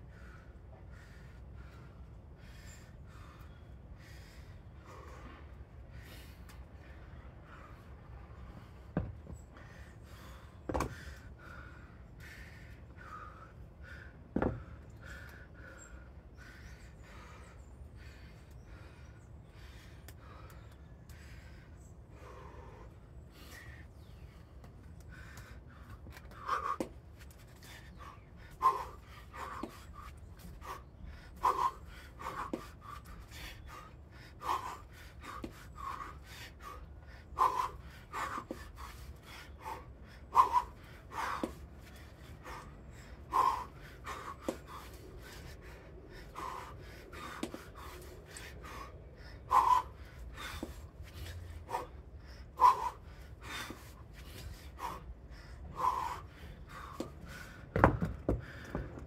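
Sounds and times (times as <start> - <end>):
person breathing hard and panting: 0.0 - 59.0.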